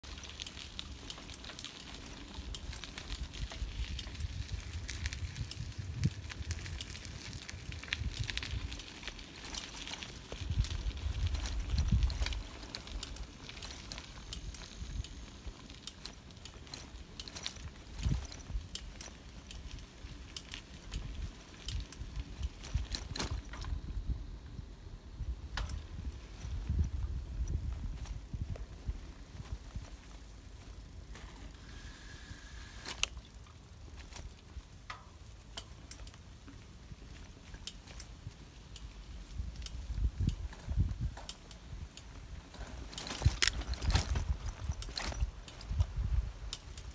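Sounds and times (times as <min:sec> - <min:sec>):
bicycle tyres crunching on gravel: 0:00.0 - 0:46.9
bike clicks and rattles: 0:00.0 - 0:46.9.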